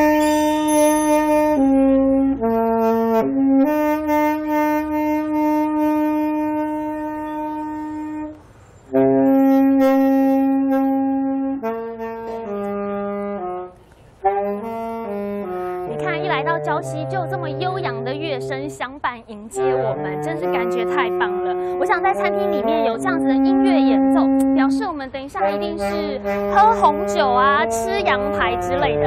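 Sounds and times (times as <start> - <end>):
solo saxophone melody: 0.0 - 29.0.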